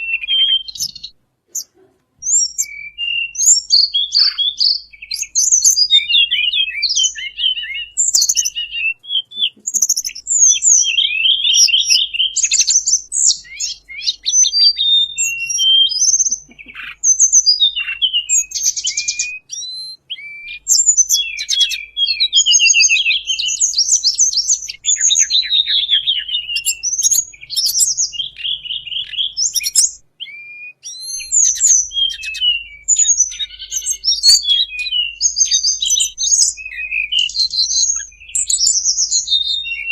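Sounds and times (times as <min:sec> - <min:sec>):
recorded birdsong chirps and trills: 0:00.0 - 0:39.9.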